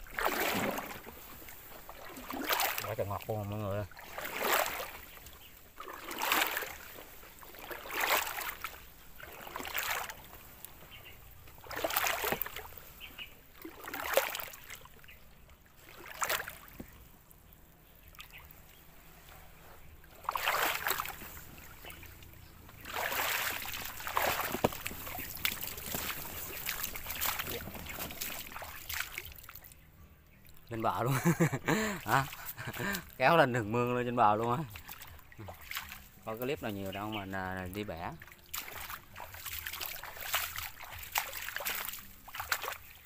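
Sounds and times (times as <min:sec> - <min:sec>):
water sloshing and splashing: 0:00.0 - 0:43.0.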